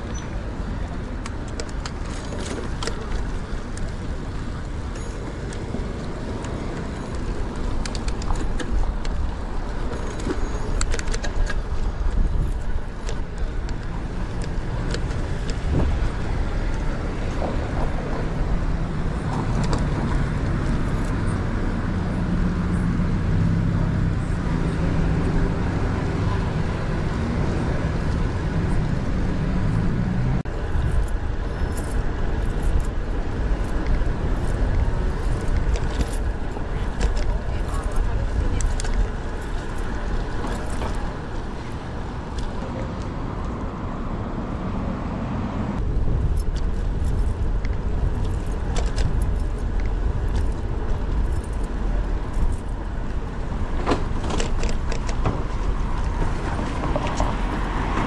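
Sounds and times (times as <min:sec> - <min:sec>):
car engine hum: 0:00.0 - 0:58.0
road traffic: 0:00.0 - 0:58.0
wind rumble on microphone: 0:00.0 - 0:58.0.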